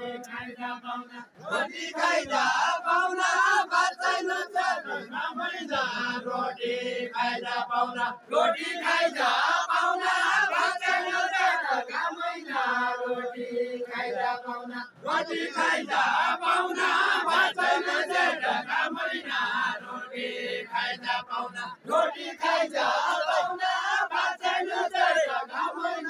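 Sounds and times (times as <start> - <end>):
men singing unaccompanied: 0.0 - 26.0.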